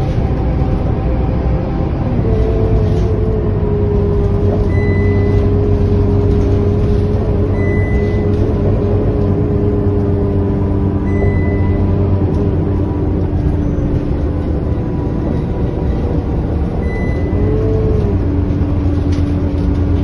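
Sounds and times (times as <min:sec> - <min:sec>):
bus diesel engine running: 0:00.0 - 0:20.0
road rumble: 0:00.0 - 0:20.0.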